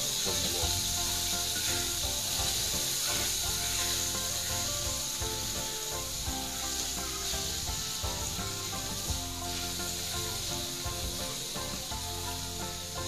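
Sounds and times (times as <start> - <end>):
frying hiss: 0.0 - 13.0
spatula scraping frying pan: 0.0 - 13.0.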